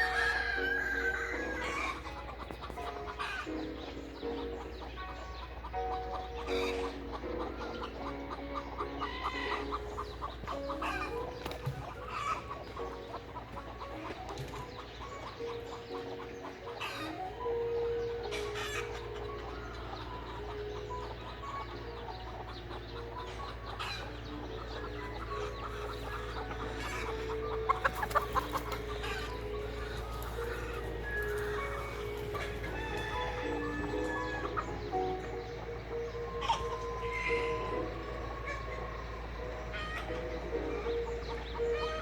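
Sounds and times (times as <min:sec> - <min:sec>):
chicks peeping: 0:00.0 - 0:42.0
hen clucking: 0:00.0 - 0:42.0.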